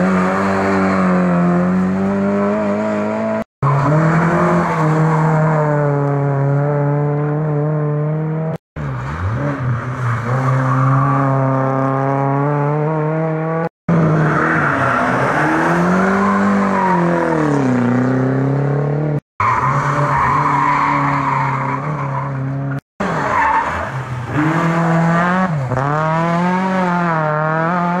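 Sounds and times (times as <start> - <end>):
rally car engines braking and accelerating: 0.0 - 28.0.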